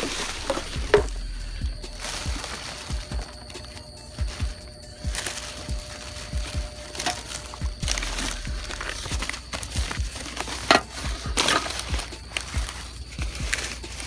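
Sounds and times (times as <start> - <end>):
paper and cardboard rustling: 0.0 - 14.0.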